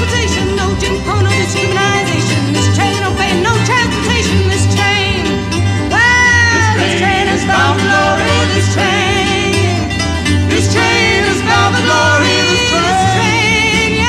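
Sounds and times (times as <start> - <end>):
acoustic guitar: 0.0 - 14.0
woman singing with vibrato: 0.0 - 14.0.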